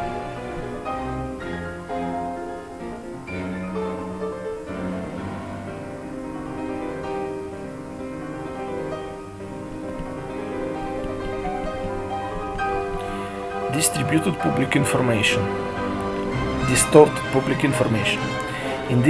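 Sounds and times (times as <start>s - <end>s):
low bowed strings: 0.0s - 19.0s
piano notes: 0.0s - 19.0s.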